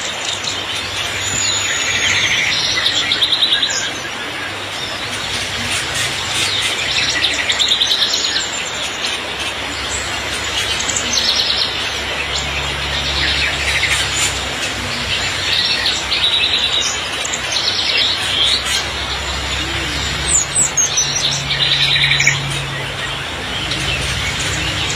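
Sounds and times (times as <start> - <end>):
songbirds chirping and trilling: 0.0 - 24.9
heavy rain hissing: 0.1 - 24.9.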